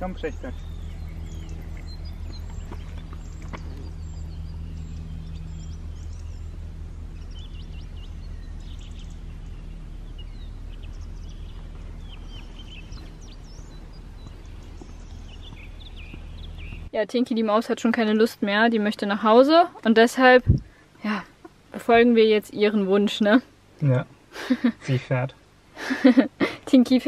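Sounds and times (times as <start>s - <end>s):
low outdoor hum: 0.0s - 27.0s
small birds chirping: 0.0s - 27.0s.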